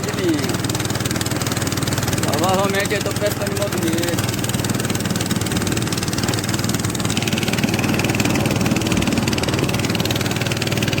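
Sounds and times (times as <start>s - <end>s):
small boat motor running: 0.0s - 11.0s.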